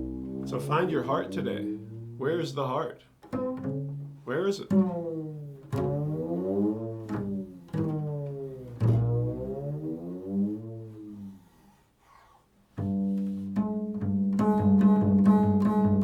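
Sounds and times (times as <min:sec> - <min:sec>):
plucked low string instrument: 0:00.0 - 0:11.3, 0:12.8 - 0:16.0.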